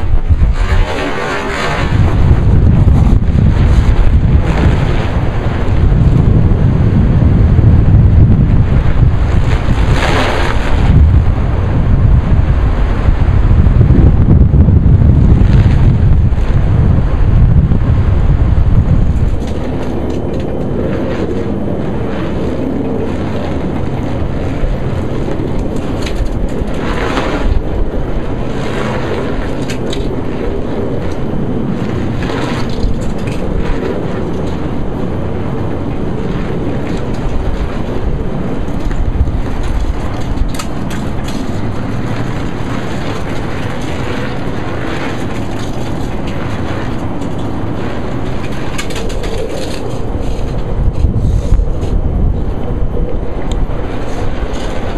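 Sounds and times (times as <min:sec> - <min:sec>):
strong wind buffeting microphone: 0:00.0 - 0:54.9.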